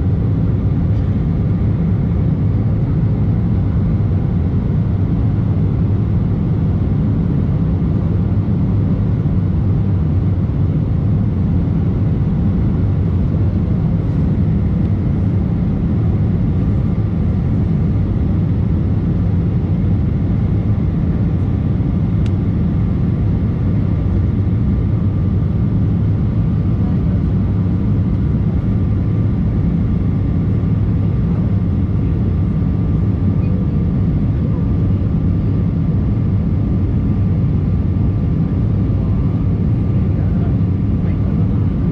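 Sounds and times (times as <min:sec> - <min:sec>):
jet cabin rumble: 0:00.0 - 0:41.9.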